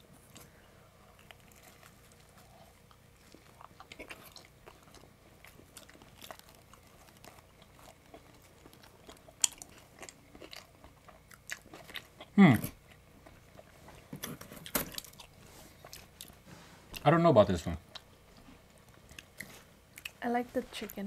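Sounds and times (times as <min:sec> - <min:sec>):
people chewing pizza: 0:00.0 - 0:21.0.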